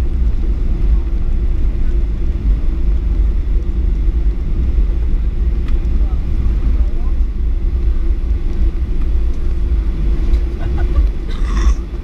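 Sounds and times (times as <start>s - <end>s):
jet engines at low power: 0.0s - 12.0s.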